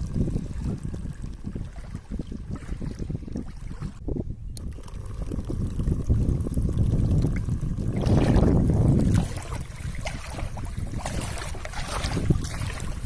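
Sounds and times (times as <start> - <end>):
water splashing and trickling: 0.0 - 13.0
wind rumbling on microphone: 0.0 - 13.0.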